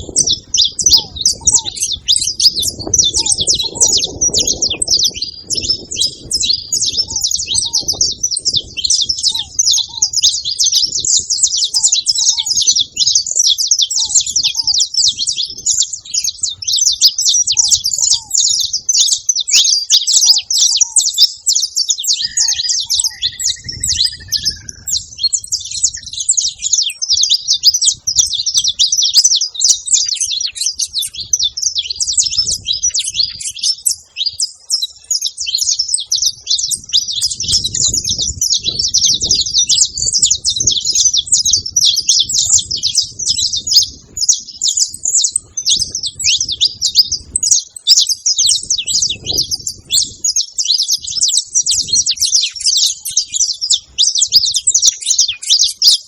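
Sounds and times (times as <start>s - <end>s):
finch chirping rapidly: 0.0s - 56.0s.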